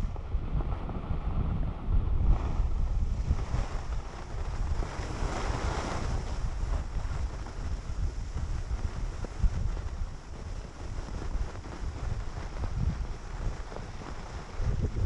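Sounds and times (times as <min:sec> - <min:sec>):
wind buffeting microphone: 0:00.0 - 0:15.0
skis sliding over snow: 0:02.2 - 0:15.0.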